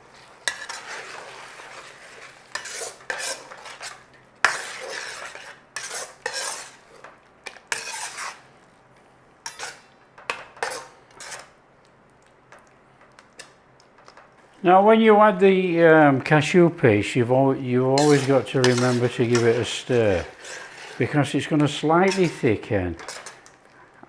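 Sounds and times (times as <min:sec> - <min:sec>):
spoon scraping a pan: 0:00.0 - 0:11.6, 0:12.4 - 0:14.6, 0:17.7 - 0:24.0.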